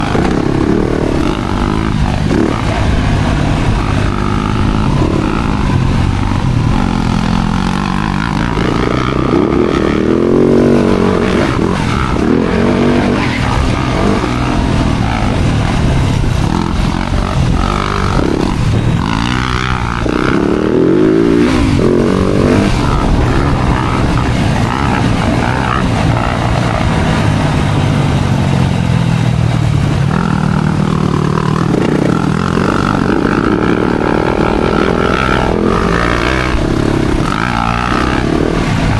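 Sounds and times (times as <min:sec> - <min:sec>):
motocross engine revving hard: 0:00.0 - 0:27.9, 0:29.9 - 0:38.9.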